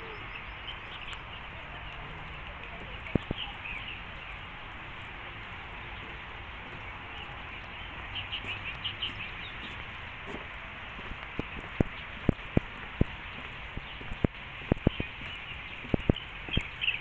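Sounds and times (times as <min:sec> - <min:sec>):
birds chirping: 0:00.0 - 0:17.0
steady outdoor hiss: 0:00.0 - 0:17.0.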